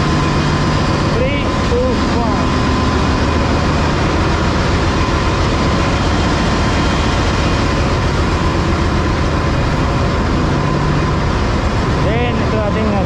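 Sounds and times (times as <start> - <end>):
engine room machinery din: 0.0 - 13.0.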